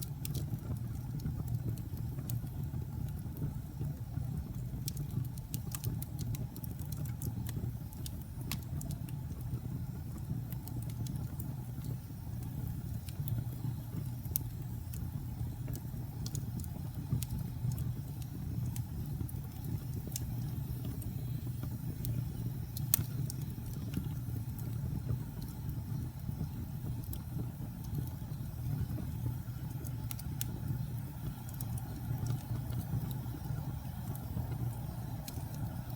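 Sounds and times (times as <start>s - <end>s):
flames rumbling: 0.0s - 35.9s
wood fire crackling and popping: 0.0s - 35.9s.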